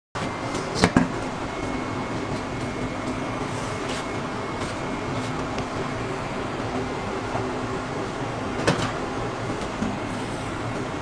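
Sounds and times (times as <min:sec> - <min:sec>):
machine hum: 0:00.2 - 0:11.0.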